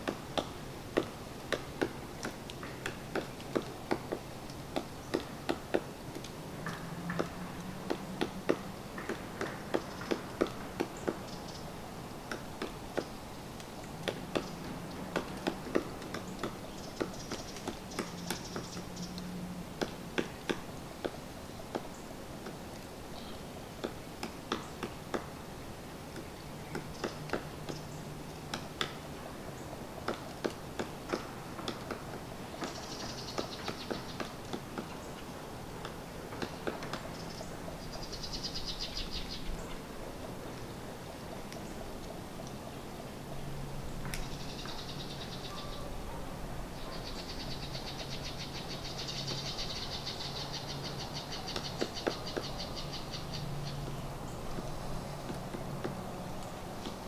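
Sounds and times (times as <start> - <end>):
woodpecker pecking wood: 0.0 - 42.9, 46.8 - 57.0.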